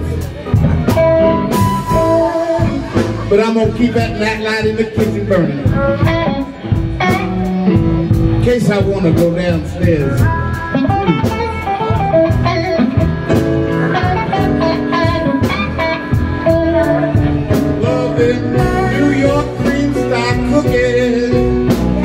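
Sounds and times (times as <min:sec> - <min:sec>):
blues band playing: 0:00.0 - 0:22.0
drum kit beat: 0:00.0 - 0:22.0
electric guitars: 0:00.0 - 0:22.0.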